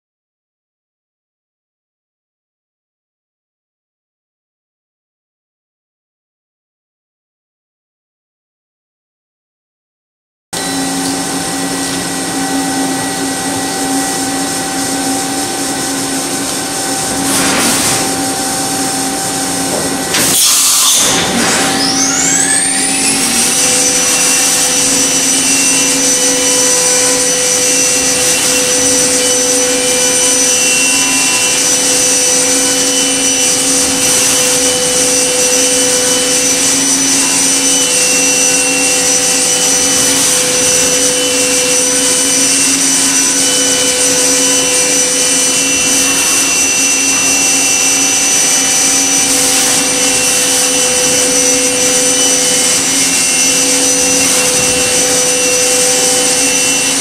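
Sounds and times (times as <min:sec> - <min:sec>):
machine hum with steady tones: 0:10.6 - 0:57.0
spindle high whine: 0:10.6 - 0:57.0.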